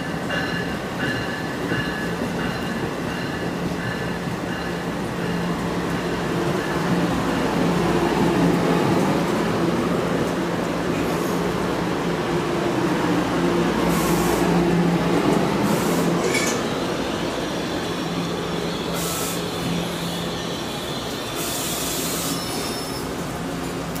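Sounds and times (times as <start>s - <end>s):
train coaches rolling past: 0.0s - 24.0s.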